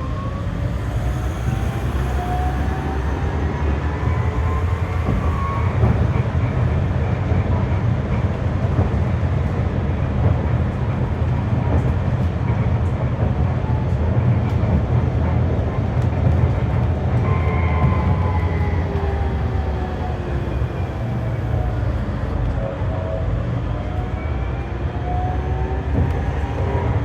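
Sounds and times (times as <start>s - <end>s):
tram wheels rumbling on rail: 0.0s - 27.0s.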